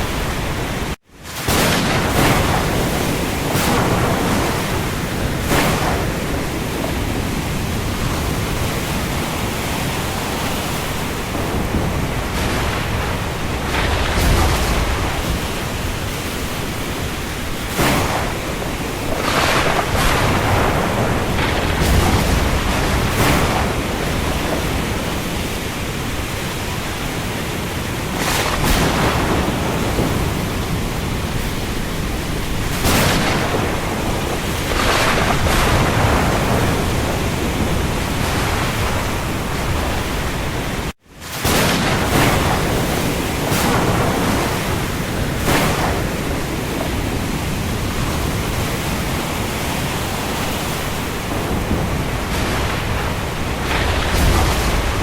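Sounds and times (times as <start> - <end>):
rain over the sea: 0.0 - 55.0
waves: 0.0 - 55.0
wind surges: 0.0 - 55.0.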